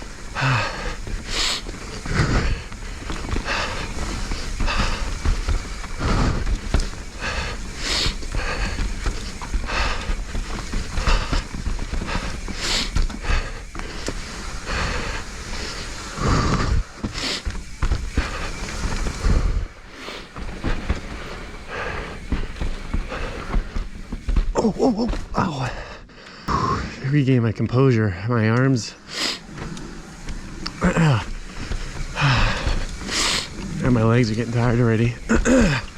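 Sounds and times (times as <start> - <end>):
bike knocking and rattling: 0.0 - 25.9, 29.4 - 35.9
heavy breathing: 0.0 - 27.1, 28.0 - 35.9.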